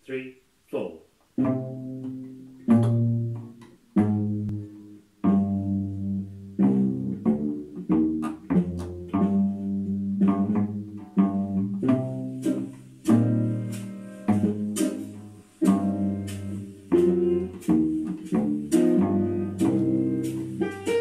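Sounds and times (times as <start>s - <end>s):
bowed cello tune: 1.4s - 21.0s.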